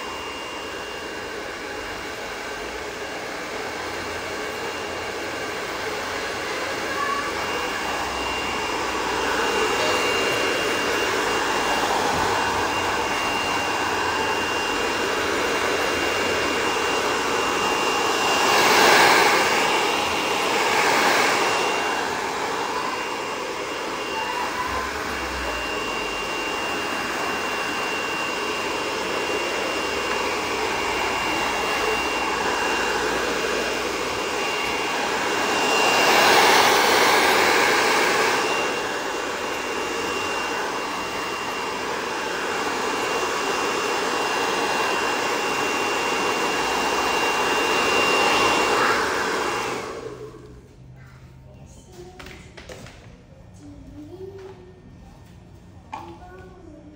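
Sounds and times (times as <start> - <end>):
hair dryer blowing: 0.0 - 53.2.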